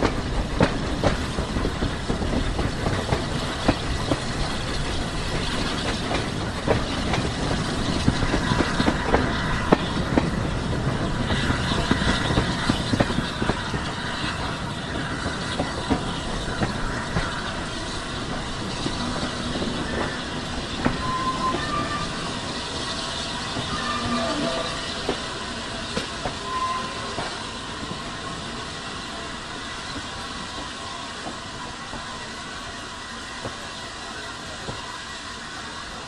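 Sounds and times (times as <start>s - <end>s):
train rumble and hiss: 0.0s - 36.0s.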